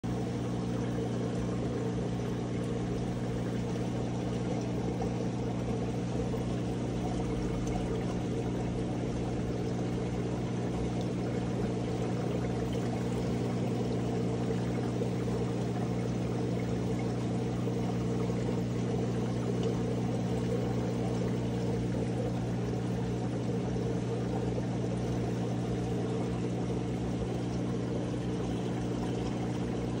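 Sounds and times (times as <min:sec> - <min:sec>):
aquarium pump humming: 0:00.0 - 0:30.0
water pouring and churning: 0:00.1 - 0:30.0.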